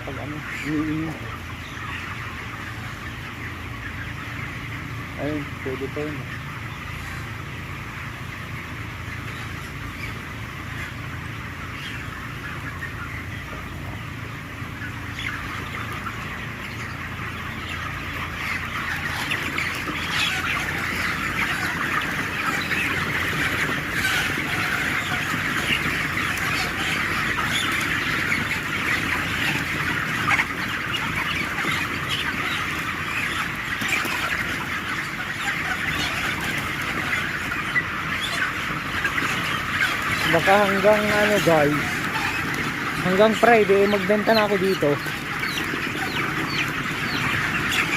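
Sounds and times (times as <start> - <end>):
chickens chirping and clucking: 0.0 - 47.9
ventilation fans humming: 0.0 - 47.9.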